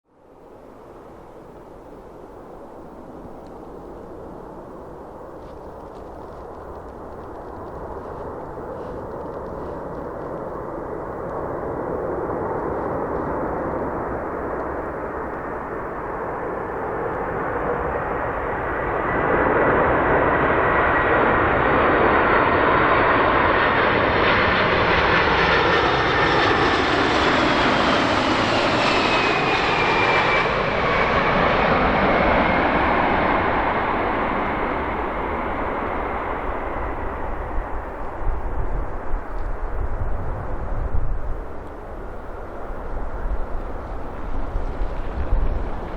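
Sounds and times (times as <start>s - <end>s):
jet aircraft passing by: 0.2s - 45.9s.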